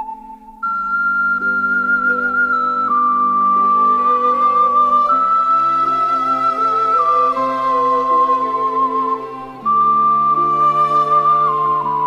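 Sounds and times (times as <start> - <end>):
flute-like note over sustained chords: 0.0 - 12.0.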